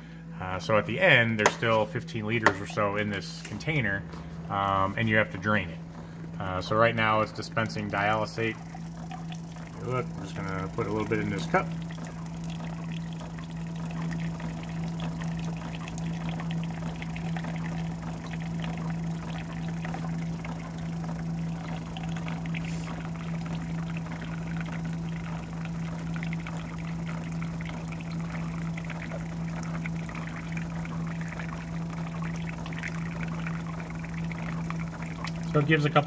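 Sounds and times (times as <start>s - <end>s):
liquid trickling into plastic cup: 4.5s - 36.0s.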